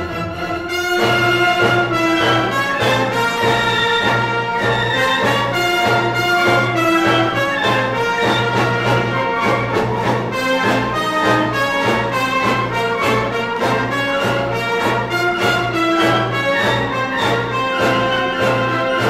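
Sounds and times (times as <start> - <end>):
big band brass music: 0.0 - 19.0.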